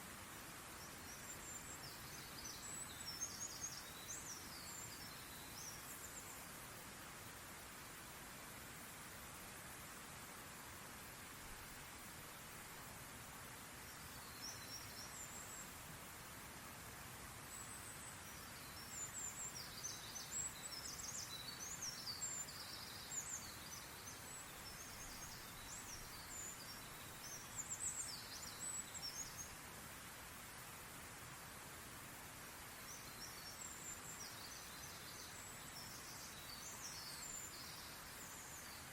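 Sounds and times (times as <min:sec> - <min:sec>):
outdoor background hiss: 0:00.0 - 0:38.9
small birds chirping: 0:00.6 - 0:08.0, 0:13.5 - 0:15.9, 0:17.3 - 0:38.9.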